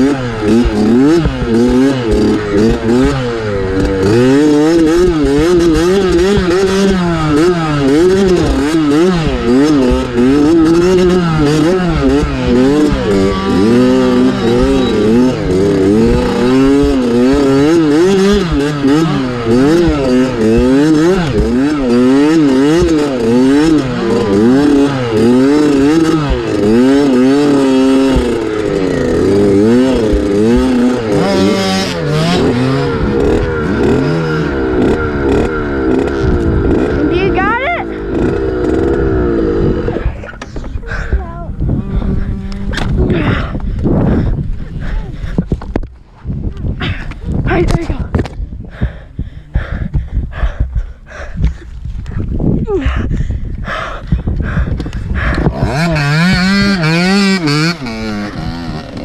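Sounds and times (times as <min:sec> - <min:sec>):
dirt bike engine revving: 0:00.0 - 0:52.3, 0:53.7 - 0:59.0.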